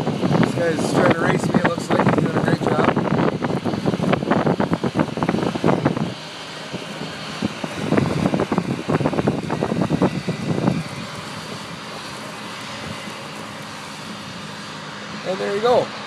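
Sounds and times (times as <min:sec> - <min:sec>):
truck driving: 0:00.0 - 0:16.0.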